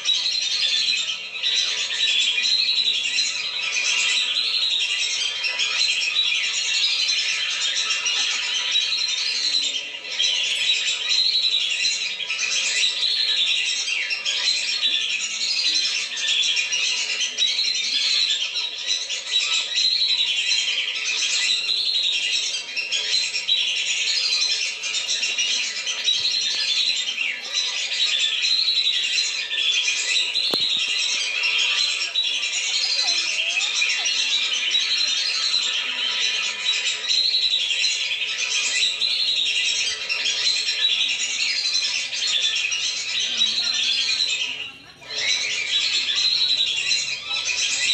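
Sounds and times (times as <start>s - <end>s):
ducks whistling calls: 0.0s - 47.9s.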